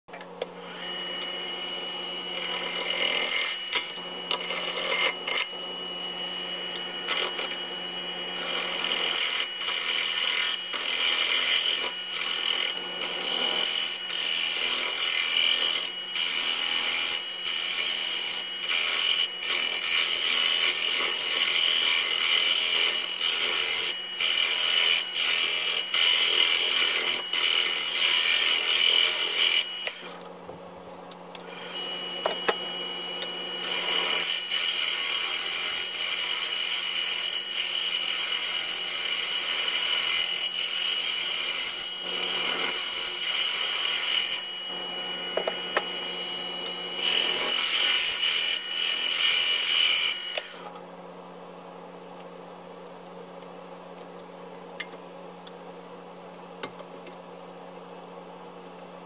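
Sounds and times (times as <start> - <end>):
wood lathe humming and whining: 0.4 - 30.3, 31.3 - 50.8.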